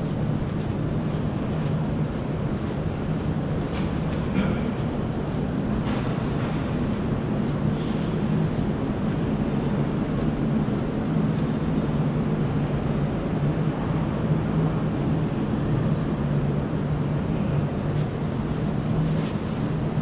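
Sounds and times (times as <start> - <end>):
air-handling system drone: 0.0 - 20.0.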